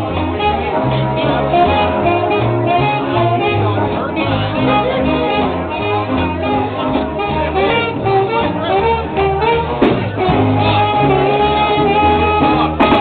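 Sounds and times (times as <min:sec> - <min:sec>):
band playing loud music: 0:00.0 - 0:13.0.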